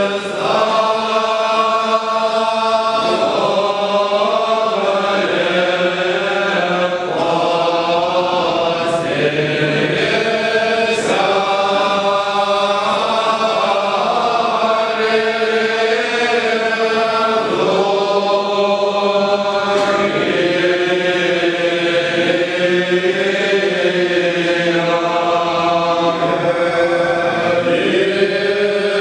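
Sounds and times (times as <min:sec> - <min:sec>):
men chanting a hymn: 0:00.0 - 0:29.0.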